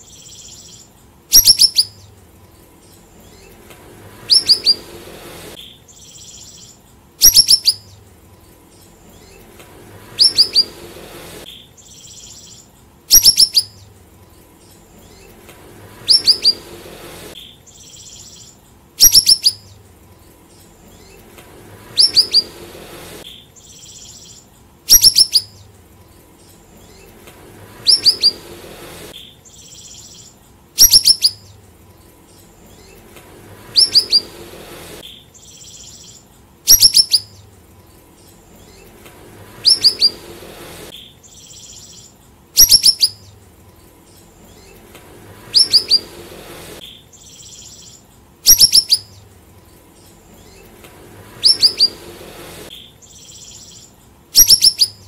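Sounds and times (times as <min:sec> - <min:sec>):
songbird calling: 0:00.0 - 0:55.0.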